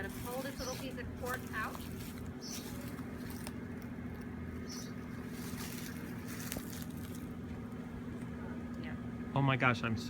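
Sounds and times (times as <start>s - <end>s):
honeybees buzzing: 0.0s - 9.2s.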